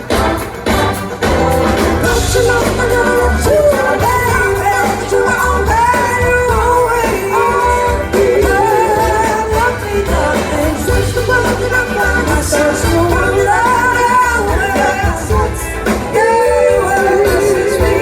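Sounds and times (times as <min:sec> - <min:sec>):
live band playing soul-rock: 0:00.0 - 0:18.0
person singing: 0:01.2 - 0:18.0.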